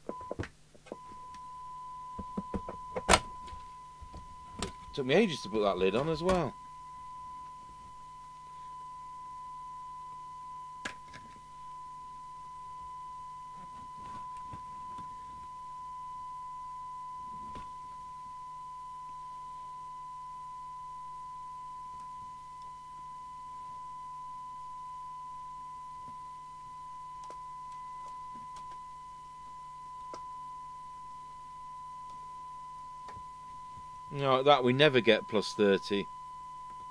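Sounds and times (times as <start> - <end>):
steady test tone from radio speaker: 0.0 - 36.9.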